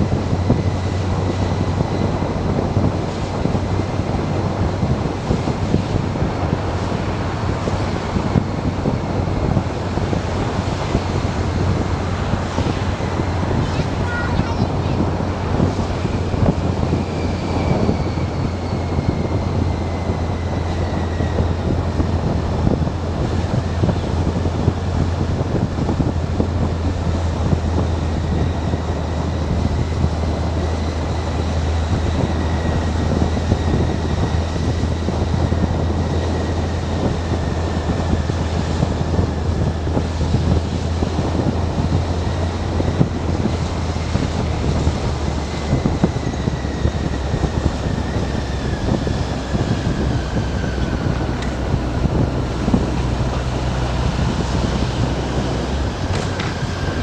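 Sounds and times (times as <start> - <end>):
faint whine sinking in pitch: 0.0 - 57.0
motorcycle engine cruising: 0.0 - 57.0
wind rushing over microphone: 0.0 - 57.0.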